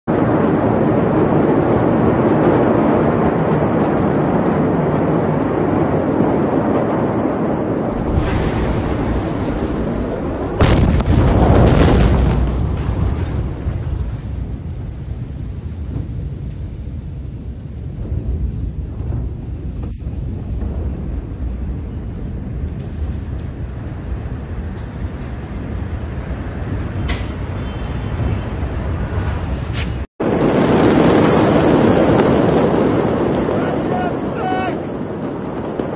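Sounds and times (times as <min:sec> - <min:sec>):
large fire roaring: 0:00.1 - 0:35.9
wind buffeting microphone: 0:00.1 - 0:35.9.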